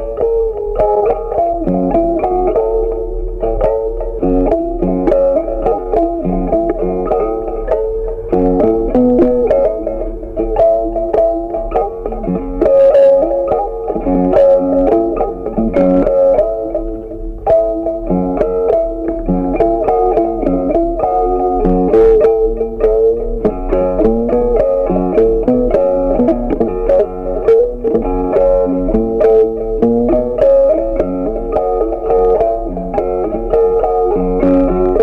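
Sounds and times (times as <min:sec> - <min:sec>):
plucked guitar tune: 0:00.0 - 0:35.0.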